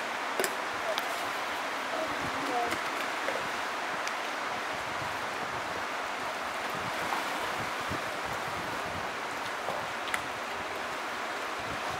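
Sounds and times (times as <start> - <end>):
creek water rushing: 0.0 - 11.9.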